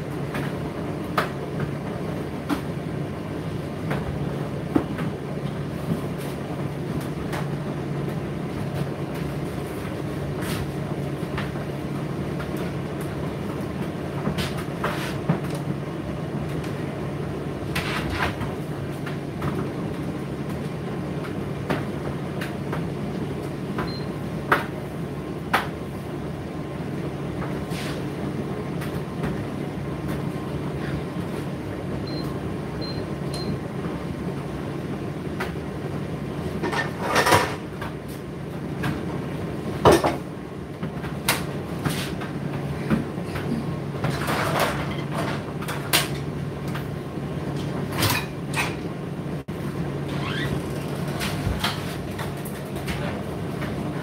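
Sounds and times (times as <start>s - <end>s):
tumble dryer motor hum: 0.0s - 54.0s.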